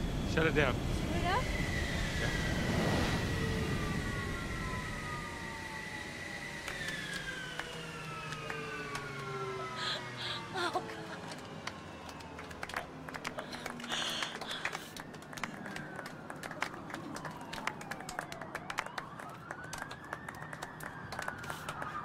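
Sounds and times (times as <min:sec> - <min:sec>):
jet engines winding down: 0:00.0 - 0:22.0.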